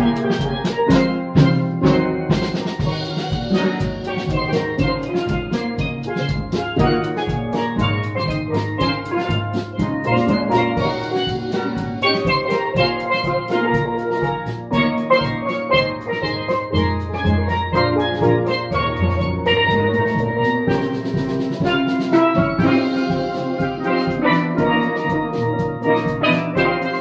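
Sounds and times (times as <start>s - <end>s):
steel band playing: 0.0s - 27.0s.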